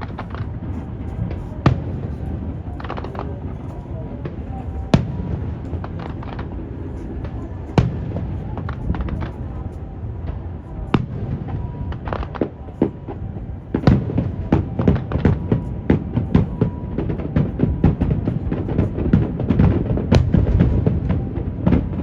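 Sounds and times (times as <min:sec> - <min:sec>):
fireworks bangs and booms: 0:00.0 - 0:22.0
wind rumble on microphone: 0:00.0 - 0:22.0.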